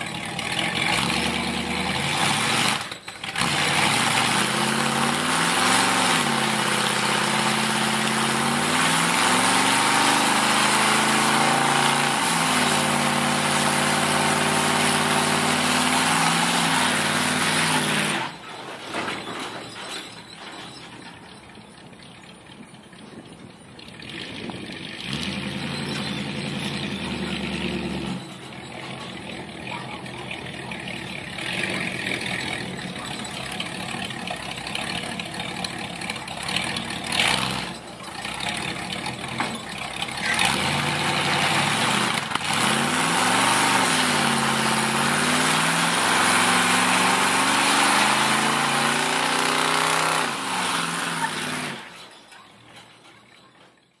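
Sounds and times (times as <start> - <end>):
truck engine revving: 0.0 - 18.9, 23.8 - 52.2.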